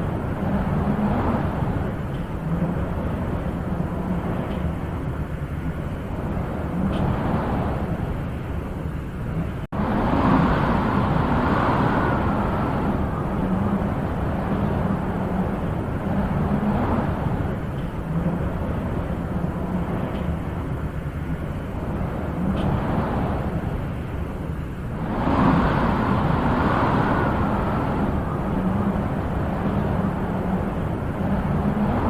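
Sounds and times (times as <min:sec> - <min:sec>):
wind blowing in gusts: 0:00.0 - 0:32.0.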